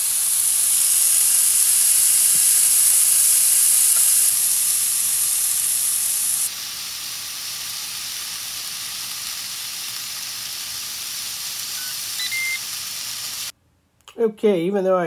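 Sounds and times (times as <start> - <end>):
steaks sizzling on a grill: 0.0 - 13.5.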